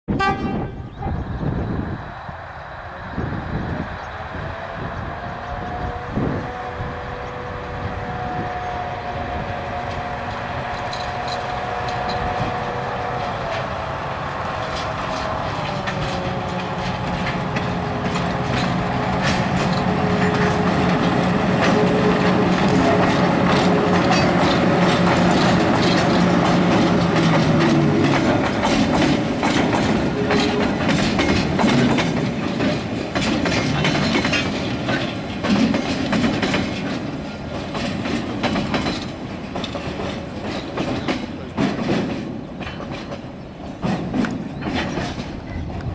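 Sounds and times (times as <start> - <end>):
diesel locomotive engine drone: 0.1 - 45.9
train wagons clacking over rail joints: 7.1 - 45.9.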